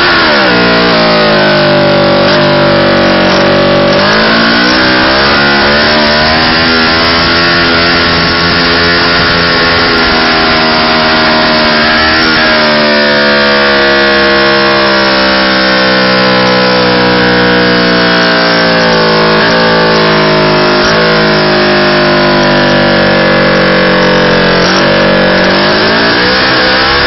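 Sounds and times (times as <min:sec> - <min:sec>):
motorcycle engine at high revs: 0:00.0 - 0:27.0
rear tyre spinning: 0:00.0 - 0:27.0.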